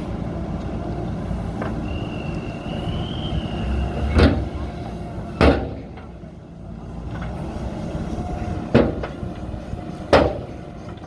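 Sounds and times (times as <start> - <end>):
heavy machine engine running: 0.0 - 11.0.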